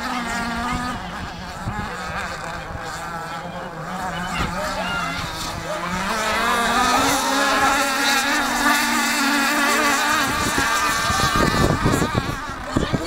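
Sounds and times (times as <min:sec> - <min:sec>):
model boat motor whine: 0:00.0 - 0:13.0
wind rumbling on microphone: 0:00.0 - 0:13.0.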